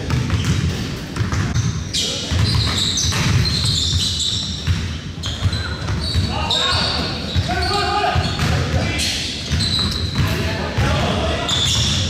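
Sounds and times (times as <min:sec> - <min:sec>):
basketball bouncing on gym floor: 0:00.0 - 0:06.4, 0:08.1 - 0:12.0.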